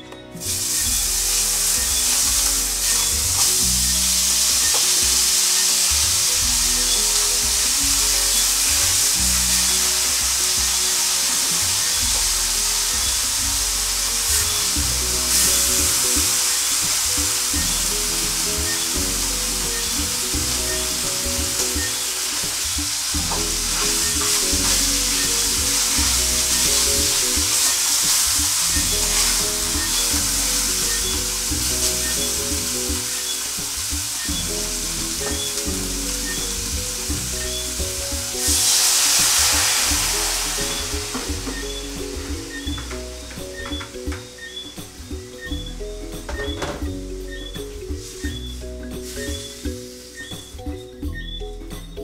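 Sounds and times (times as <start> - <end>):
soft background music: 0.0 - 52.0
fish sizzling in a pan: 0.4 - 45.5, 47.6 - 50.6
vegetables sizzling in hot pan: 0.4 - 46.3, 47.3 - 50.9.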